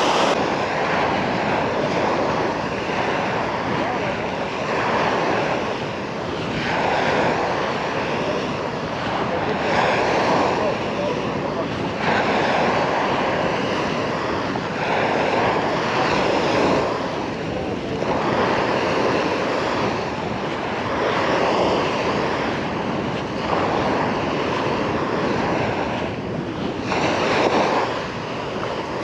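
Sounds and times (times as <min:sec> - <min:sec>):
small sea waves washing onto beach: 0:00.0 - 0:29.0.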